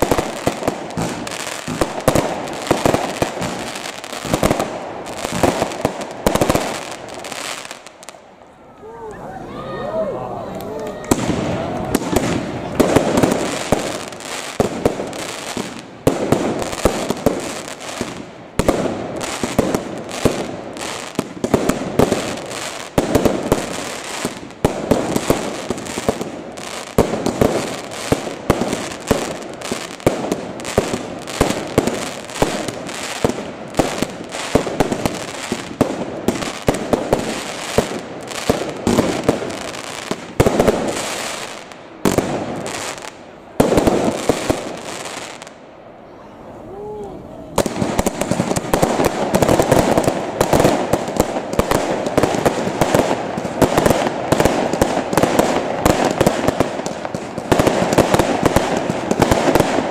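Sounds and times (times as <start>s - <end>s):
fireworks crackle: 0.0s - 8.9s, 10.5s - 45.7s, 47.5s - 59.9s
fireworks bursting: 0.0s - 9.0s, 10.5s - 59.9s.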